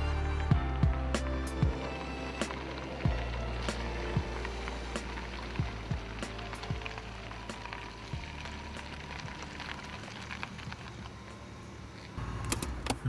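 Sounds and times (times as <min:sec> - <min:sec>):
car engine running low: 0:00.0 - 0:13.0.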